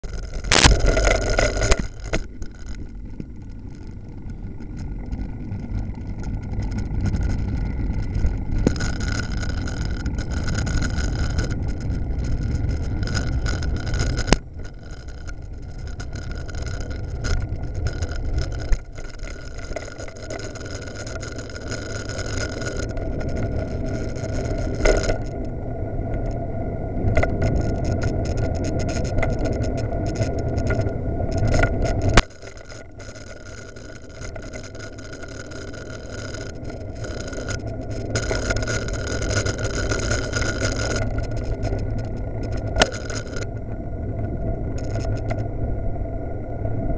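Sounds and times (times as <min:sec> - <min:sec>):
bicycle road rumble: 0:00.0 - 0:46.9.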